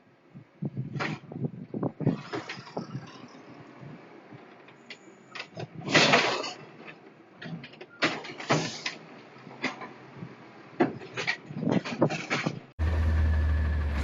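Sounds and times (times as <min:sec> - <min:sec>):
garbage truck engine rumble: 0:01.6 - 0:14.0.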